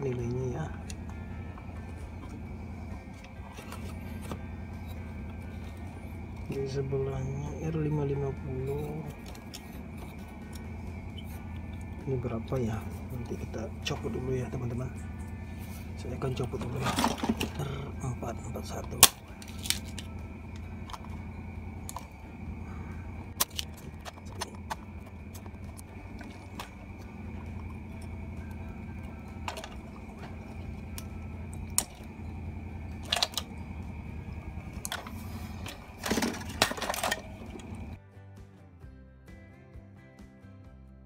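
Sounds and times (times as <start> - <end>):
faint high whine: 0.0 - 38.0
steady low hum: 0.0 - 38.0.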